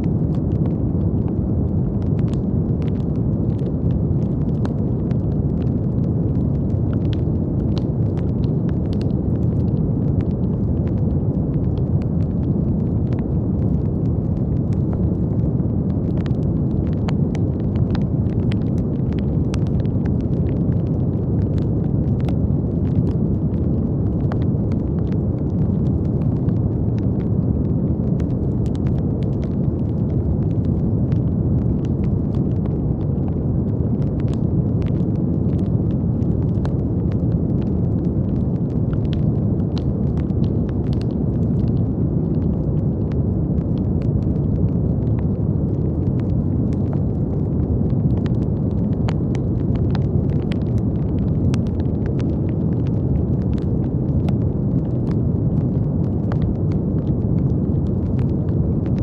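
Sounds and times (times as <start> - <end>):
faint crackles: 0.0 - 59.0.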